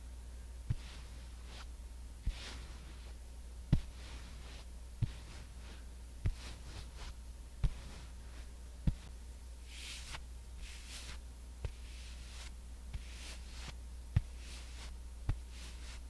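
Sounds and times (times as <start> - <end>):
faint brushing strokes: 0.0 - 16.0
soft pats on microphone: 0.7 - 8.2, 8.8 - 16.0.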